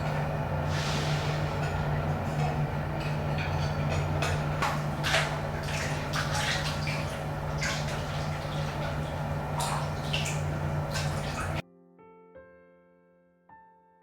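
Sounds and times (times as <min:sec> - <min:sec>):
steady low hum: 0:00.0 - 0:11.6
water splashing in bathtub: 0:00.0 - 0:11.6.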